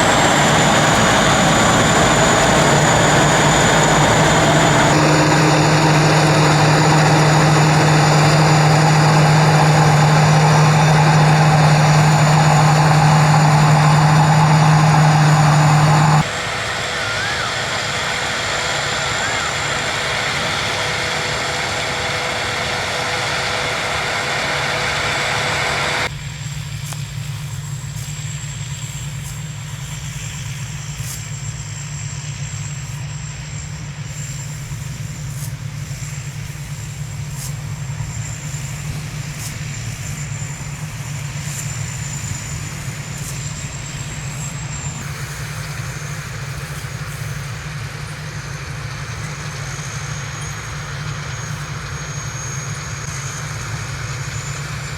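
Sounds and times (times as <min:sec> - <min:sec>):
engine droning: 0:00.0 - 0:54.9
thin high whine: 0:00.0 - 0:54.9.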